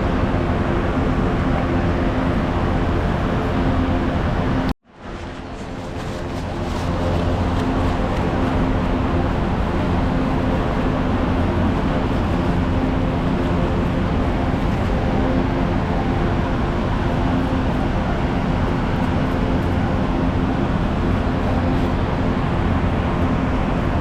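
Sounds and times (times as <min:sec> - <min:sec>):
machinery drone: 0:00.0 - 0:24.0.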